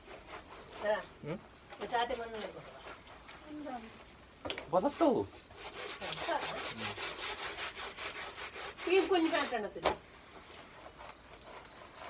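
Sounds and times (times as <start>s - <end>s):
rhythmic hand scrubbing: 0.0s - 3.9s, 4.7s - 9.7s, 10.4s - 12.0s.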